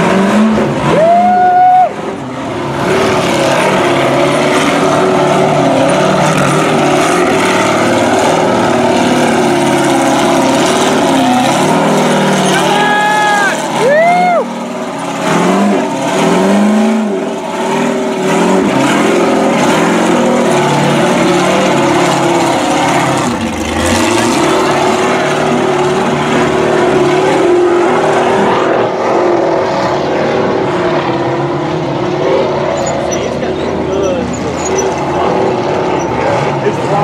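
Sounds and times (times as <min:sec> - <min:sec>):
race buggy engines revving: 0:00.0 - 0:37.0.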